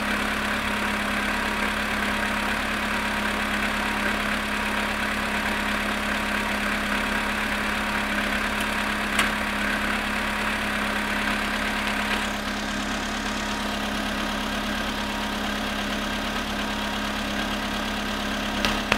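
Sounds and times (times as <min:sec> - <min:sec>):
car engine idling with knocking: 0:00.0 - 0:18.9.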